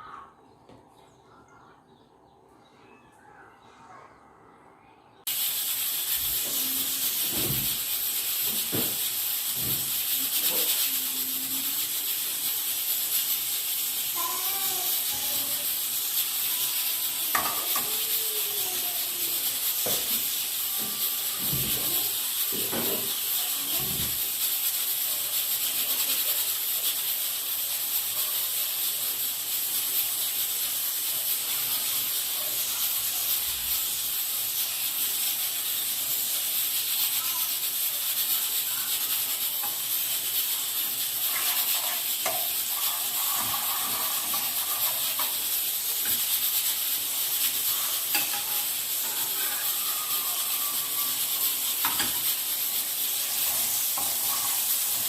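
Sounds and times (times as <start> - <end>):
food sizzling in a frying pan: 5.2 - 55.0.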